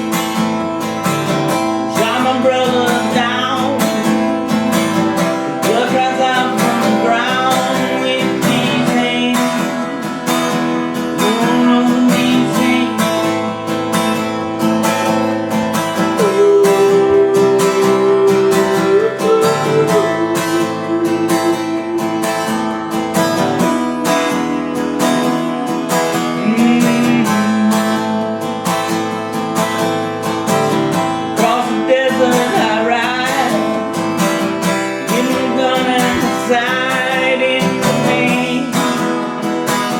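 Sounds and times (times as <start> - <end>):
acoustic guitar strummed and picked: 0.0 - 39.9.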